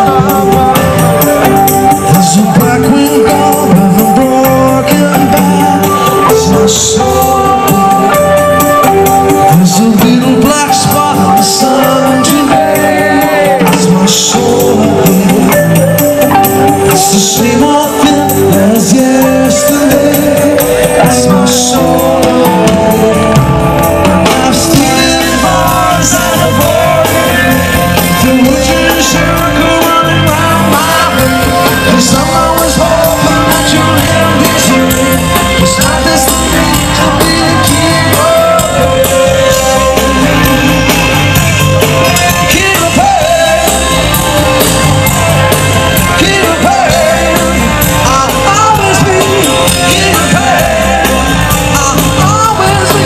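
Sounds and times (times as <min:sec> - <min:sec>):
drum kit with cymbals: 0:00.0 - 0:53.0
electric bass: 0:00.0 - 0:53.0
electric guitar: 0:00.0 - 0:53.0
man singing: 0:00.0 - 0:53.0.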